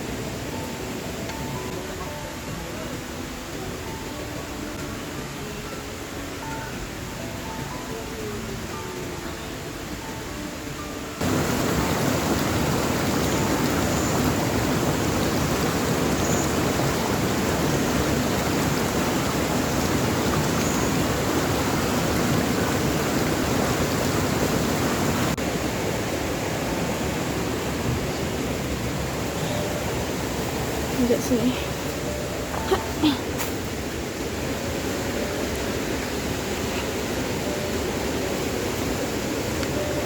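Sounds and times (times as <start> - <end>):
running water hiss: 0.0 - 40.0.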